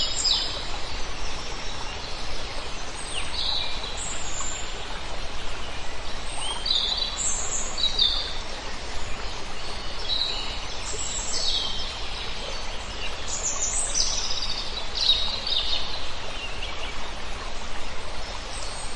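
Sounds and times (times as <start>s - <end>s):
steady background hiss: 0.0s - 18.9s.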